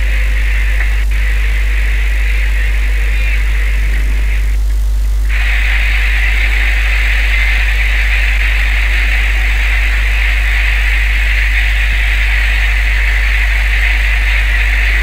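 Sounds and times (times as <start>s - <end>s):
boat engine droning: 0.0s - 15.0s
steady hiss: 0.0s - 15.0s.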